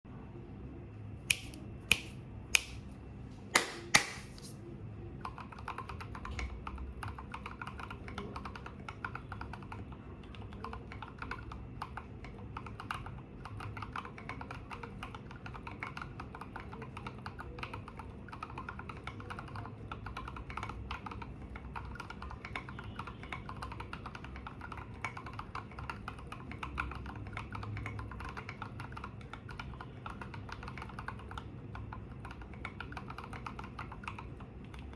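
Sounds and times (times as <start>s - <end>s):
fast typing on mechanical keyboard: 5.2s - 34.9s.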